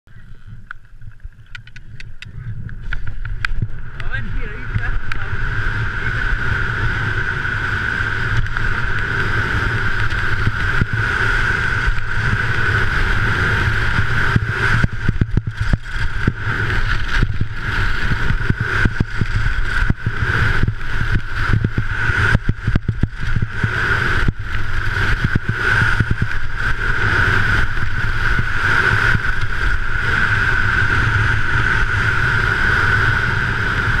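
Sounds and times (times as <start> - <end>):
wind rushing over microphone: 0.1 - 34.0
skis scraping on hard snow: 2.6 - 34.0.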